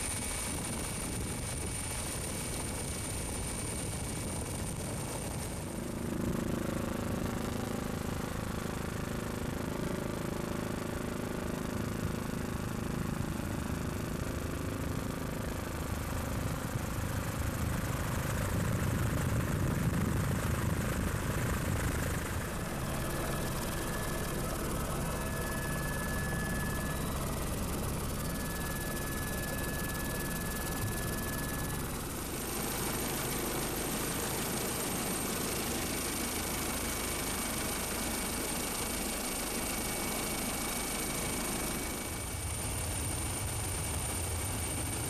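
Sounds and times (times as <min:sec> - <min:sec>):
helicopter engine and rotor: 0:00.0 - 0:45.0.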